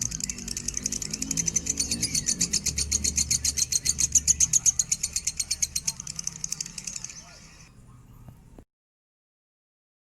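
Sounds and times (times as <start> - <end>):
lovebird chattering trill: 0.0 - 8.2.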